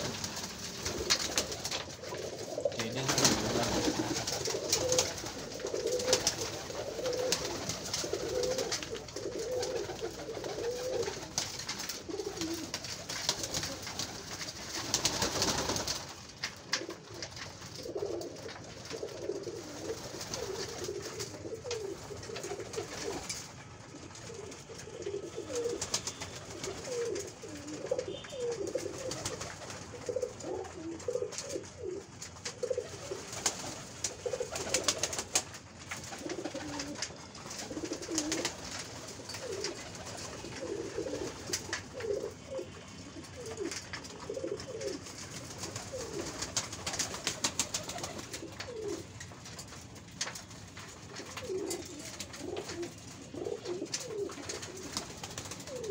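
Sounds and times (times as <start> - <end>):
pigeons cooing: 0.0 - 55.9.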